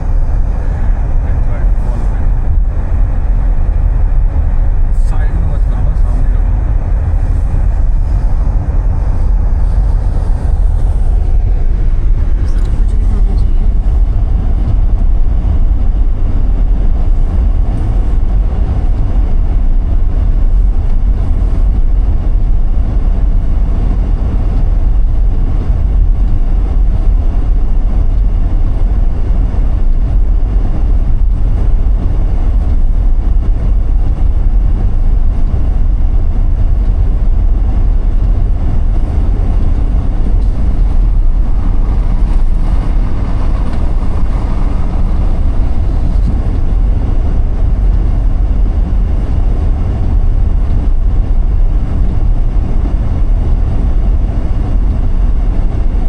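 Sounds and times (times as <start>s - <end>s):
car engine hum: 0.0s - 56.0s
road and tyre noise: 0.0s - 56.0s.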